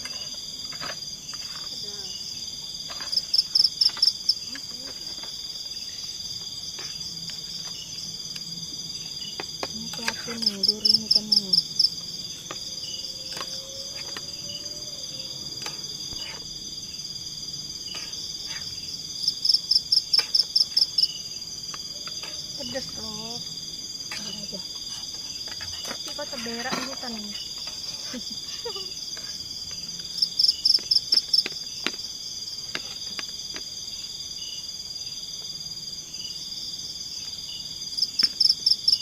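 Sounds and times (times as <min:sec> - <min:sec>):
crickets high-pitched drone: 0:00.0 - 0:39.0
insect rapid chirps: 0:00.0 - 0:39.0.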